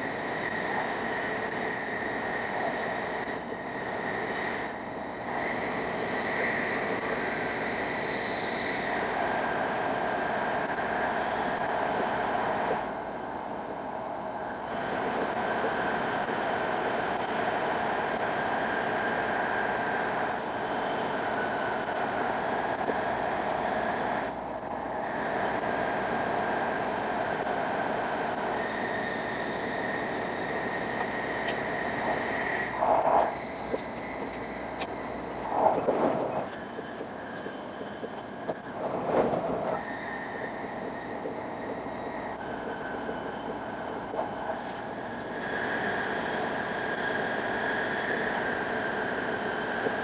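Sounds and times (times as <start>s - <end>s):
train rumble of wheels and air: 0.0s - 50.0s.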